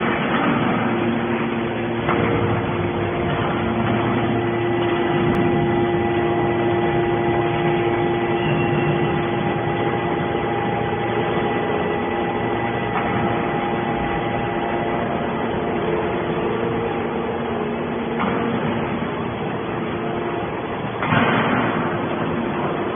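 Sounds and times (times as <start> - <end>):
hydraulic baler humming: 0.0 - 22.9.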